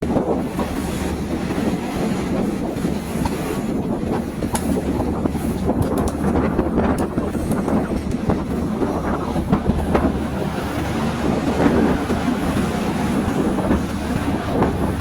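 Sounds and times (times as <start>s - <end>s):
train rumbling on rails: 0.0s - 15.0s
sharp clicks of rails: 2.4s - 15.0s.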